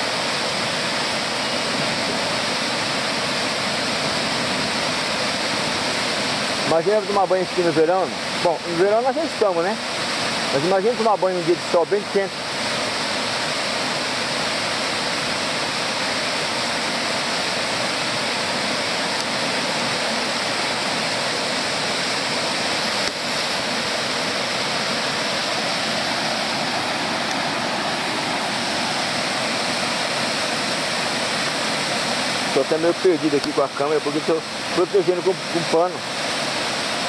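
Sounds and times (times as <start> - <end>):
waterfall pouring onto rocks: 0.0 - 37.0.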